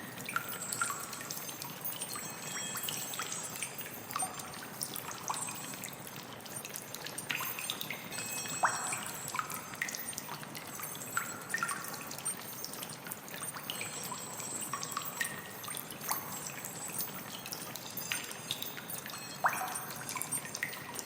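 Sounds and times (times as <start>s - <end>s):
water trickling and dripping: 0.0s - 21.0s.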